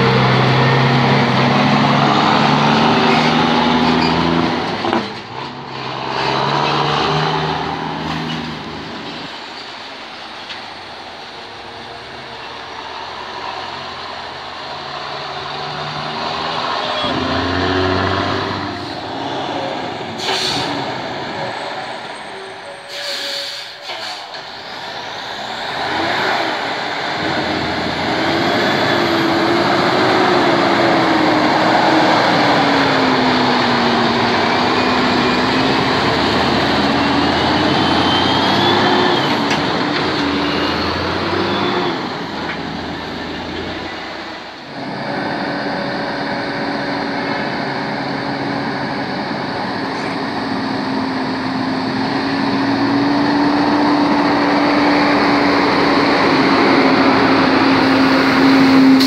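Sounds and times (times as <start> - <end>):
diesel truck engines passing: 0.0 - 59.0.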